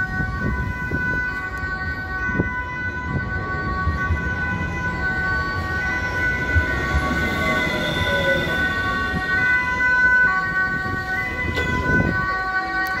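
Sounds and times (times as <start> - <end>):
tram motor whine: 1.4 - 13.0.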